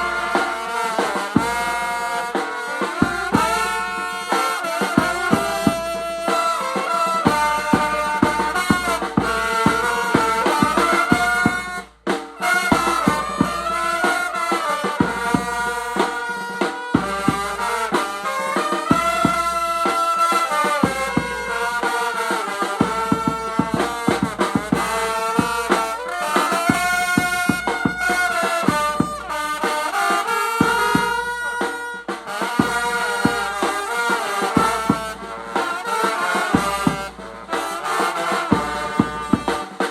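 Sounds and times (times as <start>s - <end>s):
brass horns playing slow melody: 0.0s - 39.9s
drums: 0.0s - 39.9s.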